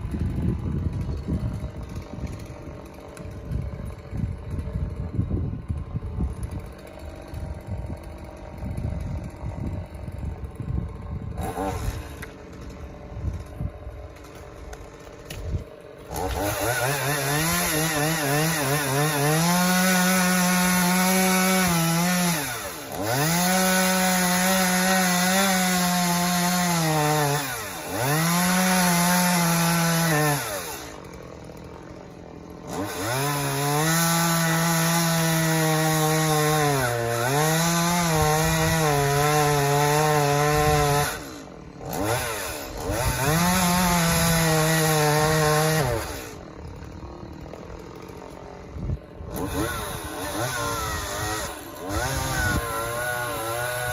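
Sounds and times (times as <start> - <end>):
chainsaw revving and cutting: 0.0 - 53.9.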